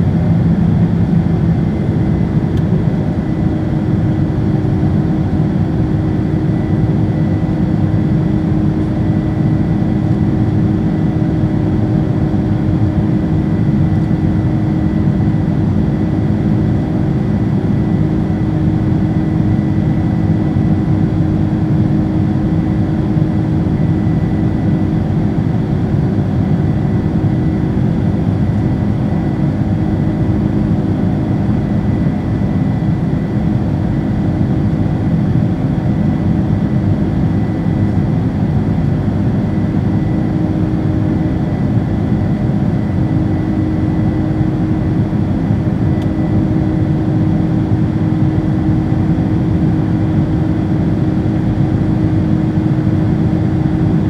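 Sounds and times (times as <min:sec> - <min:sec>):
high engine whine: 0:00.0 - 0:54.0
jet engines roaring in cabin: 0:00.0 - 0:54.0.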